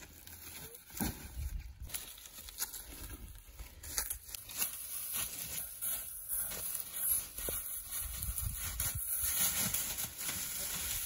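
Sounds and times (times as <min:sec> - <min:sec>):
dry corn stalks crackling: 0:00.0 - 0:11.0.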